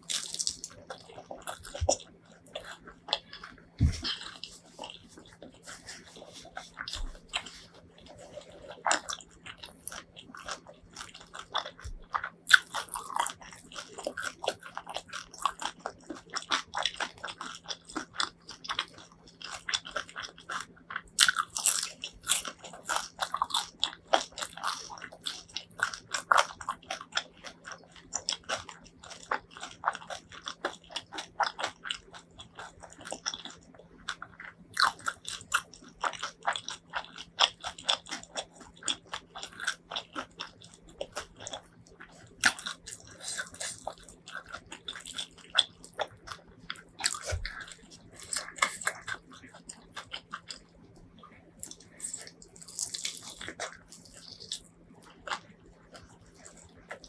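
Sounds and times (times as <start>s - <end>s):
crunchy biting and chewing: 0.0s - 57.0s
faint steady hum: 0.0s - 57.0s.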